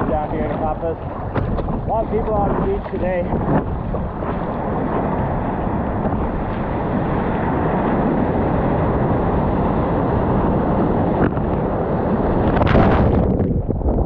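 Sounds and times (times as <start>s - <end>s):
waves breaking: 0.0s - 14.0s
wind noise on microphone: 0.0s - 14.0s.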